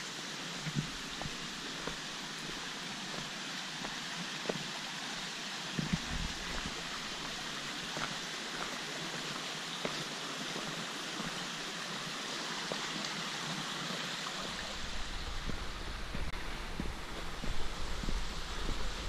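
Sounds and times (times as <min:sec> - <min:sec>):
creek running over rocks: 0:00.0 - 0:19.0.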